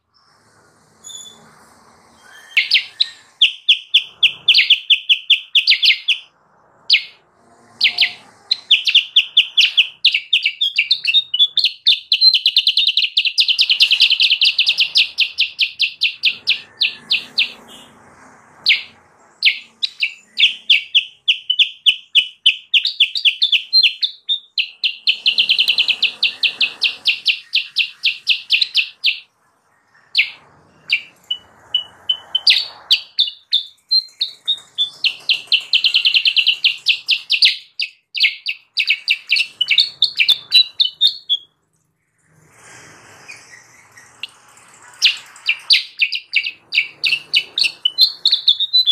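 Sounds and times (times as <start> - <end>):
bird chirping rapidly: 1.0 - 41.6, 43.2 - 48.9.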